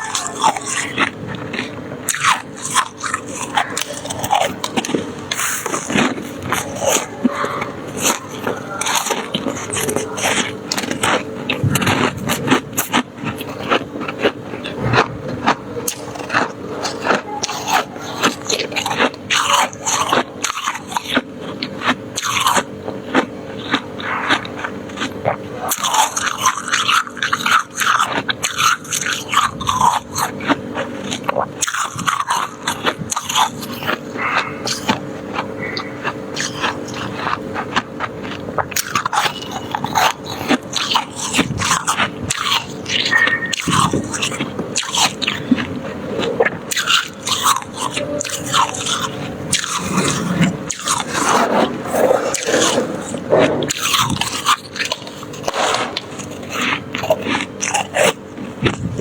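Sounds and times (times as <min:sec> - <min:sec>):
crunchy chewing of frost: 0:00.0 - 0:59.0.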